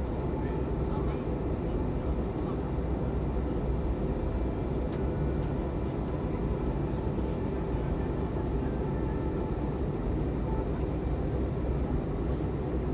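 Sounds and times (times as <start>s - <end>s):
airliner cabin drone: 0.0s - 12.9s.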